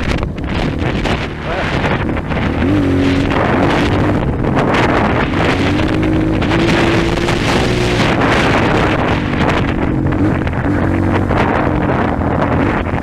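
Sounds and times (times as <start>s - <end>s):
dirt bike engine revving: 0.0s - 13.0s
wind buffeting microphone: 0.0s - 13.0s.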